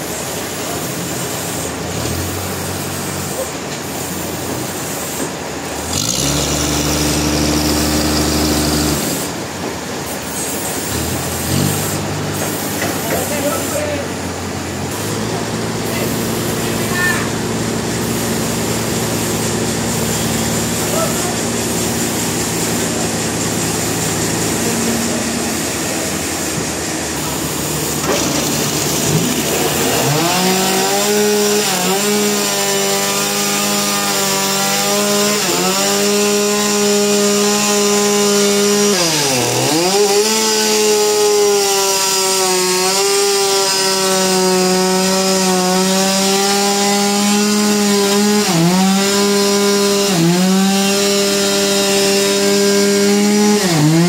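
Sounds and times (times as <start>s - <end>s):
power saw cutting wood: 0.0s - 54.0s.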